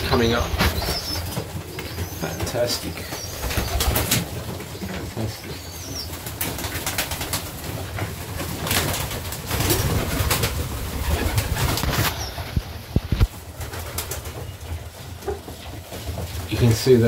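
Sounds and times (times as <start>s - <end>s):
pigeons cooing: 0.0s - 17.0s
wing flaps and scuffs: 0.2s - 17.0s.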